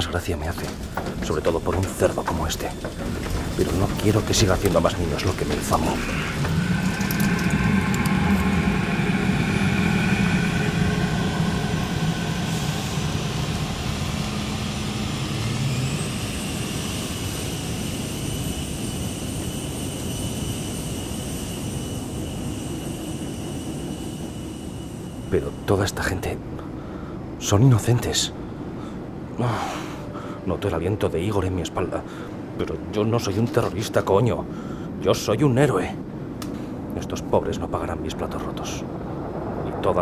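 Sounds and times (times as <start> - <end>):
low hum: 0.0 - 32.8
high whine: 0.0 - 34.1
jet engines droning: 0.0 - 40.0.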